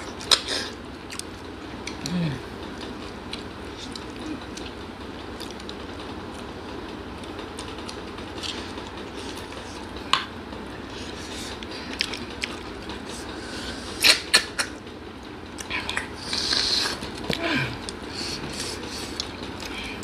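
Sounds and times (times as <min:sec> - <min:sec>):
chewing: 0:00.0 - 0:06.5, 0:07.2 - 0:10.0, 0:10.9 - 0:14.2, 0:15.5 - 0:20.0
steady background noise: 0:00.0 - 0:20.0.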